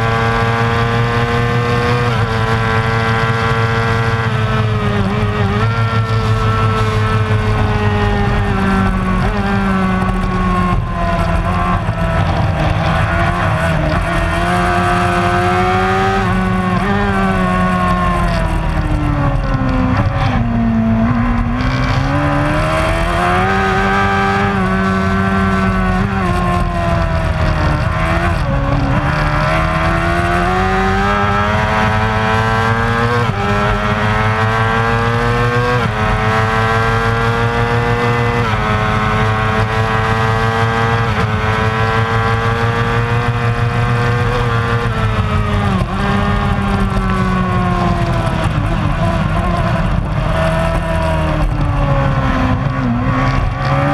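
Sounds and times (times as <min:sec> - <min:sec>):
racing motorcycle engine revving: 0:00.0 - 0:53.9.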